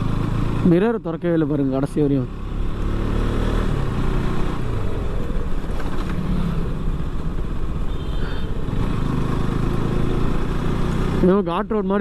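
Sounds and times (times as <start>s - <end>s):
motorcycle engine running: 0.0s - 11.9s
road and wind noise: 0.0s - 12.0s.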